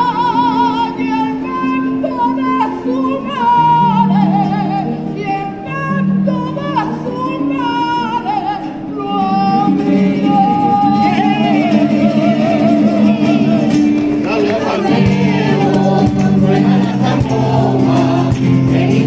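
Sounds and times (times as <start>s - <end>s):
strummed guitars: 0.0s - 19.0s
women's choir singing: 3.2s - 19.0s.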